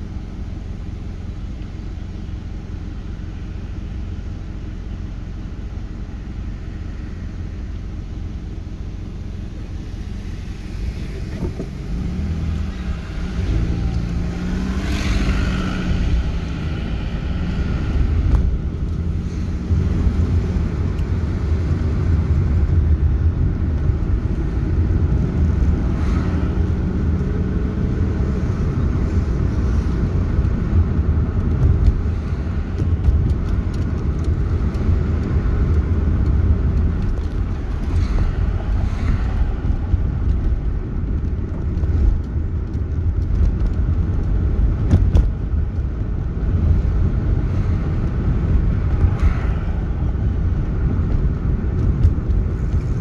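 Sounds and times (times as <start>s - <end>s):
car road noise rumble: 0.0s - 53.0s
engine hum: 0.0s - 53.0s.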